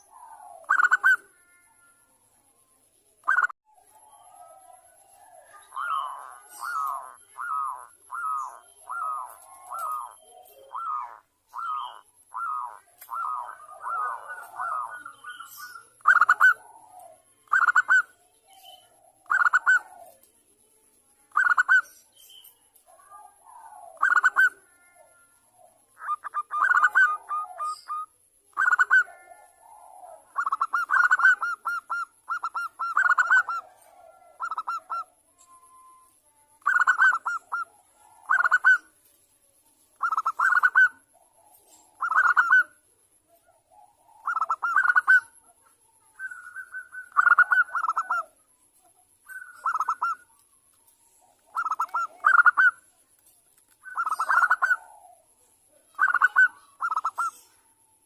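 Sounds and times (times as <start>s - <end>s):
dove cooing: 0.0s - 1.9s, 3.2s - 20.3s, 22.8s - 36.0s, 36.6s - 39.0s, 40.0s - 48.4s, 49.2s - 50.4s, 51.1s - 52.9s, 53.8s - 57.7s.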